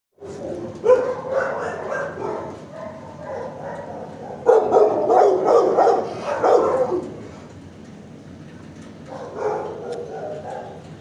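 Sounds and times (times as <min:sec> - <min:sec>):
dogs barking: 0:00.2 - 0:07.4, 0:09.0 - 0:11.0.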